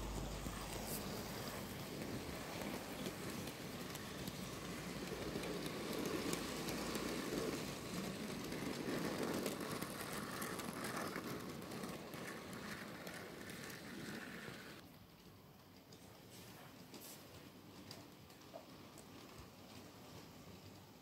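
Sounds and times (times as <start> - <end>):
model train wagons rolling on track: 0.0 - 21.0.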